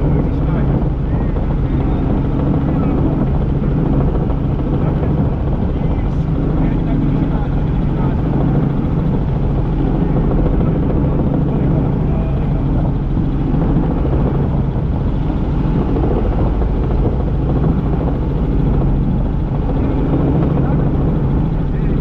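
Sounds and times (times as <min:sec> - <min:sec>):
helicopter rotor and engine drone: 0:00.0 - 0:22.0.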